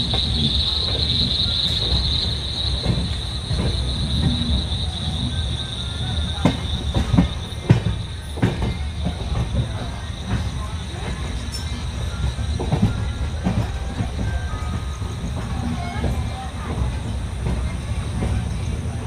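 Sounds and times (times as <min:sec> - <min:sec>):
crickets chirring: 0:00.0 - 0:19.0
train wheels rumbling on rail: 0:00.0 - 0:19.0
wheels clacking over rail joints: 0:00.0 - 0:19.0.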